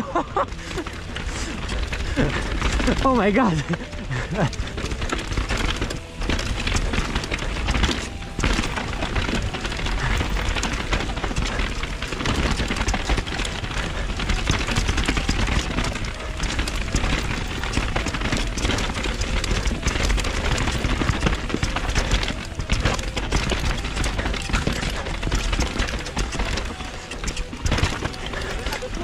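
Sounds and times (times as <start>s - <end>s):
bike clattering over stony ground: 0.0s - 29.0s
tyre noise: 0.0s - 29.0s.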